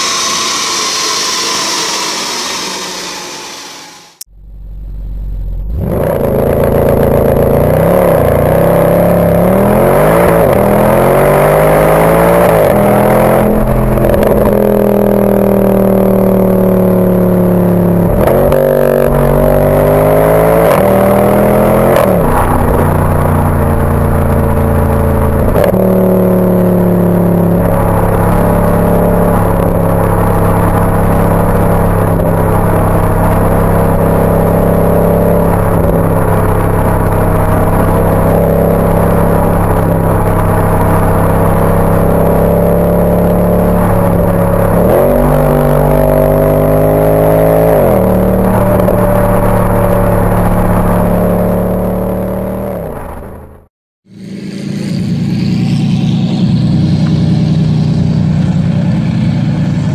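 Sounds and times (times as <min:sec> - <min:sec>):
car exhaust while driving: 0:03.5 - 0:59.9.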